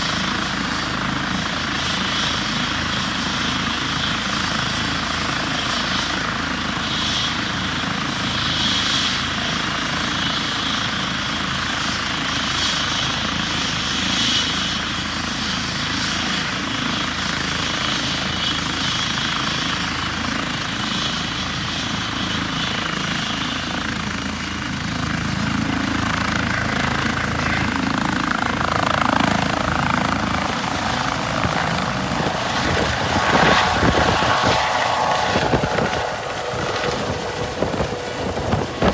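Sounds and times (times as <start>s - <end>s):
helicopter turbine and rotor: 0.0s - 38.9s.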